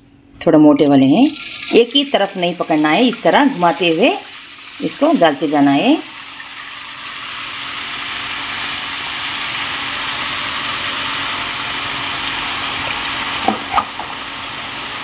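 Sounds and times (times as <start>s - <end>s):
batter sizzling in hot oil: 1.2s - 15.0s.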